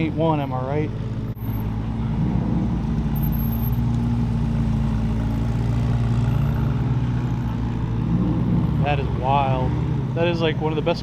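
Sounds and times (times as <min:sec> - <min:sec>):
car engine at low revs: 0:00.0 - 0:11.0.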